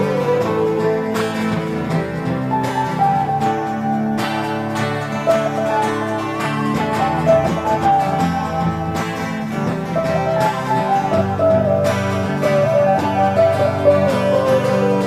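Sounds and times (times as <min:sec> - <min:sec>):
held melody line: 0:00.0 - 0:15.0
plucked acoustic guitar music: 0:00.0 - 0:15.0.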